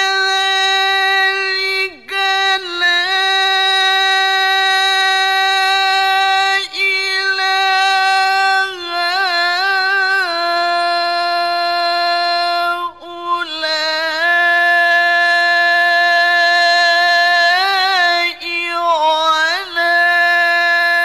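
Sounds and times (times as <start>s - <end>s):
man chanting recitation: 0.0s - 21.0s.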